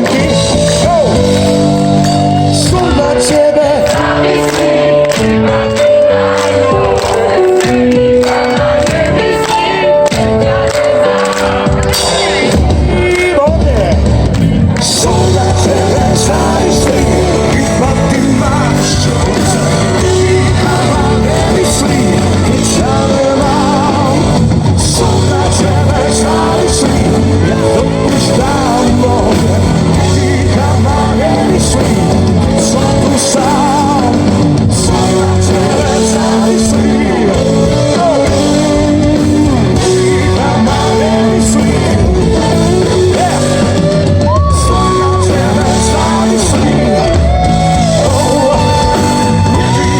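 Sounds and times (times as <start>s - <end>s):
person singing: 0.0s - 14.1s, 14.7s - 49.9s
electric guitar: 0.0s - 49.9s
live rock band playing: 0.0s - 49.9s.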